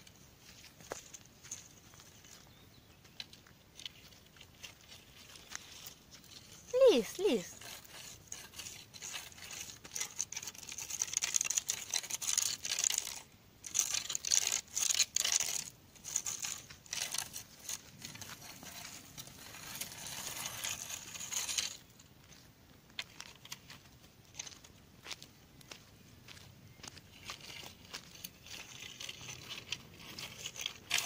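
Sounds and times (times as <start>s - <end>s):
rustling and crinkling: 0.0s - 31.0s.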